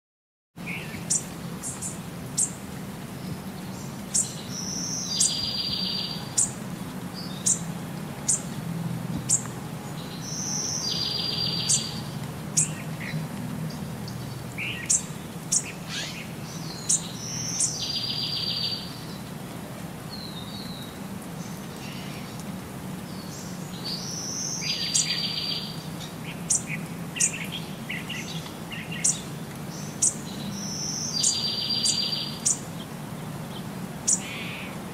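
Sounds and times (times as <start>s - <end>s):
songbirds chirping: 0.6s - 34.9s.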